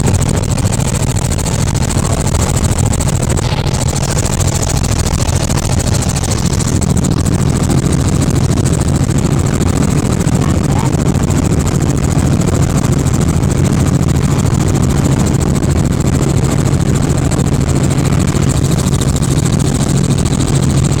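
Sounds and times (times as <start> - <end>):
helicopter engine and rotors: 0.0 - 21.0.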